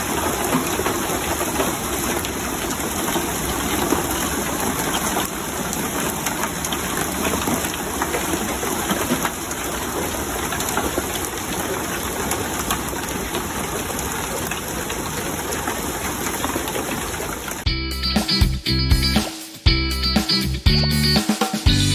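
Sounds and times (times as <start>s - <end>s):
hail pelting hard surfaces: 0.0s - 17.7s.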